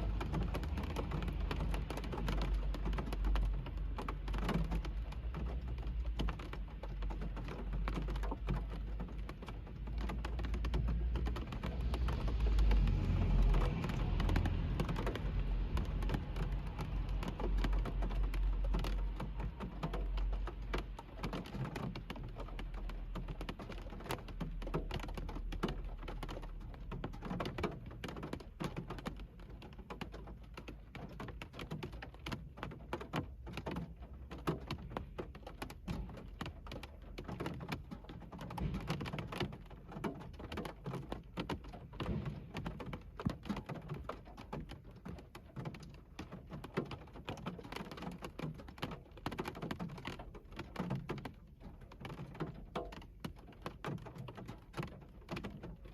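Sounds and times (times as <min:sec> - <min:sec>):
rain on a car roof: 0:00.0 - 0:55.9.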